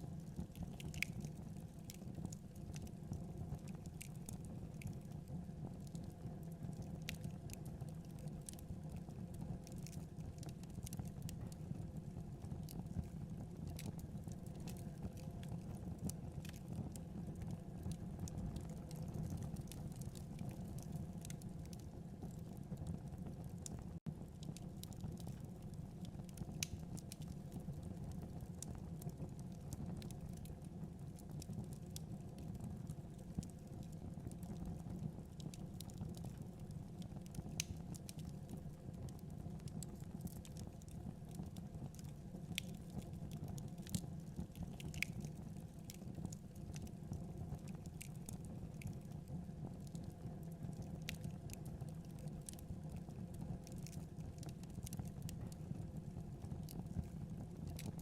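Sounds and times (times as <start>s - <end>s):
fire crackles and pops: 0.0s - 58.0s
fire rumbling in fireplace: 0.0s - 58.0s.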